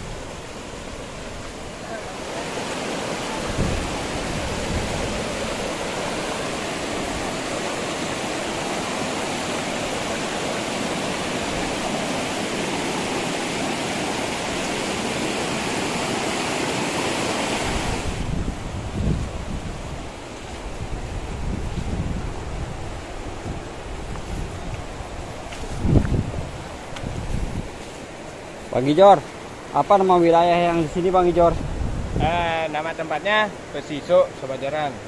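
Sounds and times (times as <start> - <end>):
fast-flowing river water: 0.0 - 35.0.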